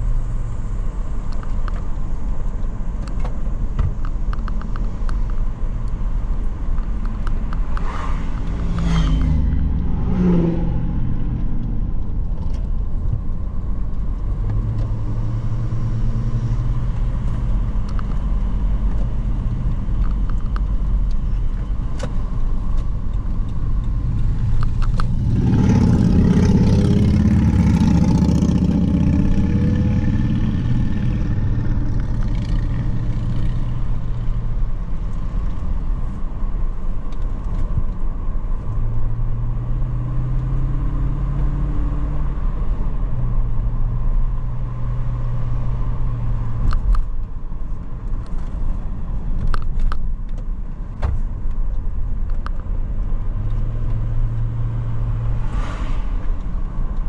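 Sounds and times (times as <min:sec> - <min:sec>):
car engine: 0:00.0 - 0:57.0
road noise: 0:00.0 - 0:57.0.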